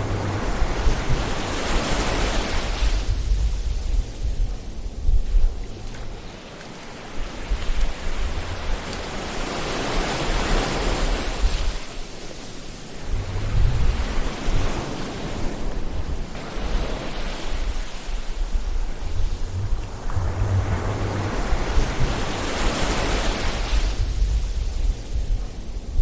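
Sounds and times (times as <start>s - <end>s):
ocean waves washing ashore: 0.0s - 26.0s.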